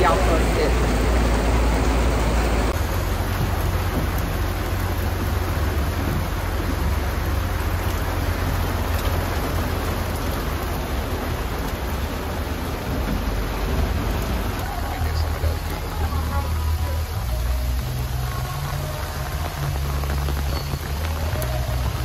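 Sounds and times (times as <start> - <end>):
steady rain falling: 0.0 - 22.0
wind buffeting microphone: 0.0 - 22.0.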